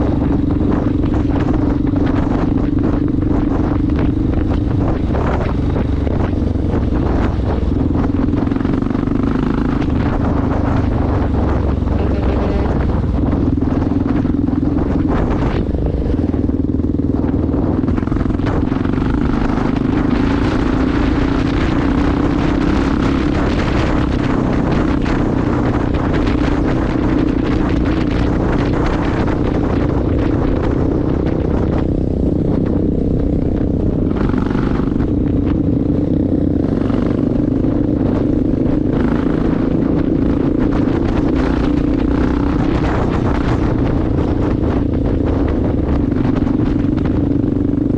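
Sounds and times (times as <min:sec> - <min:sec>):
motorcycle engine cruising: 0:00.0 - 0:47.9
wind rushing over microphone: 0:00.0 - 0:47.9.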